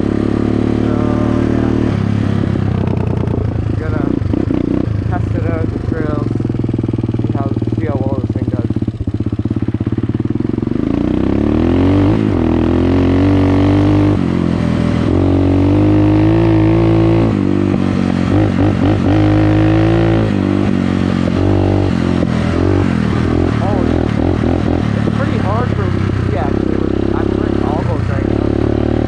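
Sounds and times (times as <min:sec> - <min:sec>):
dirt bike engine accelerating: 0:00.0 - 0:29.0.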